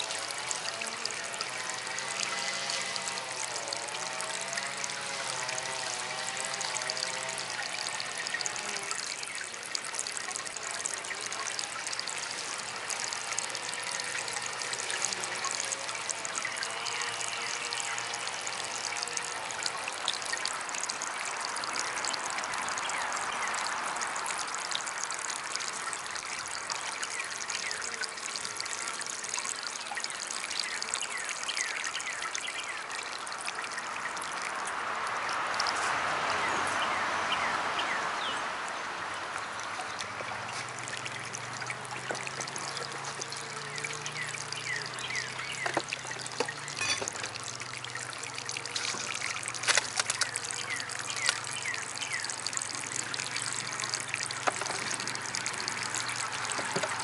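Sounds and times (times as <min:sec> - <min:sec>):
fountain water trickling: 0:00.0 - 0:57.0
water dripping: 0:00.0 - 0:57.0.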